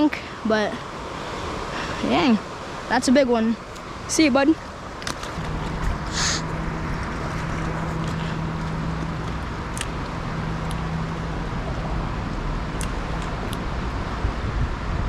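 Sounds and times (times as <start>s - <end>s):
road traffic noise: 0.0s - 15.0s
vehicle engine hum: 0.0s - 15.0s.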